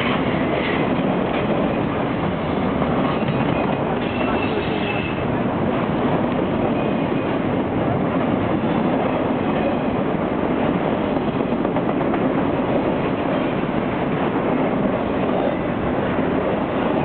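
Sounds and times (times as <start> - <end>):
freight cars rumbling on rails: 0.0 - 17.0.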